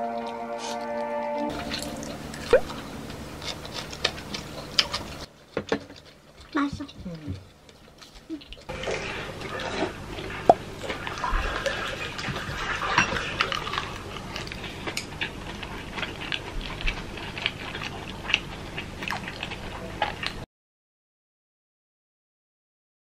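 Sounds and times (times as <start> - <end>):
wet chewing: 0.0 - 20.4.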